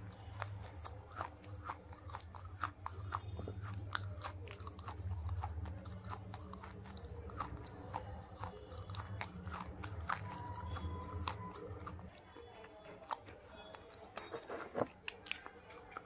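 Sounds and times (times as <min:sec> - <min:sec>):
chewing crunchy bar: 0:00.0 - 0:16.0.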